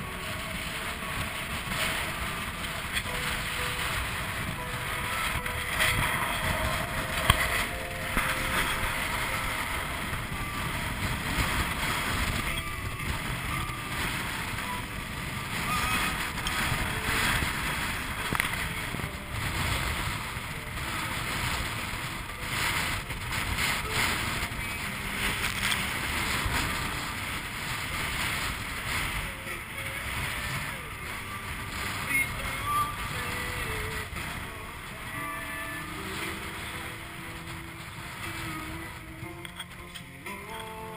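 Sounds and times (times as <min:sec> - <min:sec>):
water rushing along a hull: 0:00.0 - 0:40.9
wind buffeting microphone: 0:00.0 - 0:40.9.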